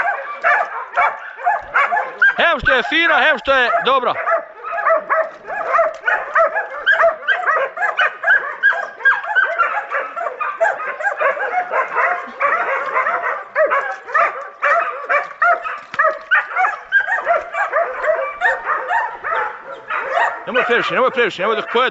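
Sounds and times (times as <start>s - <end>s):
hounds baying: 0.0s - 21.9s.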